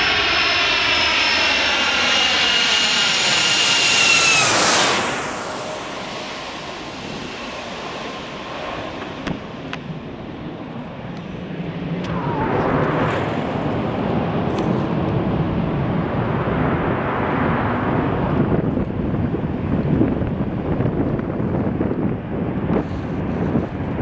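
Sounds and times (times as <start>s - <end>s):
falling jet engine whine: 0.0s - 24.0s
jet engines rushing: 0.0s - 24.0s.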